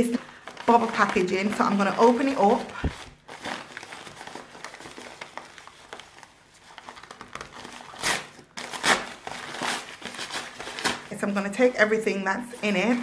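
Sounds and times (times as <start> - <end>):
paper mailer crinkling: 0.0 - 11.4.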